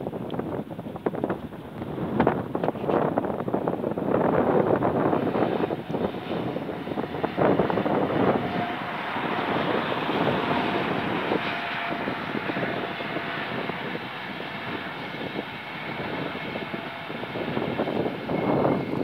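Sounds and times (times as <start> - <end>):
wind gusts on microphone: 0.0 - 19.0.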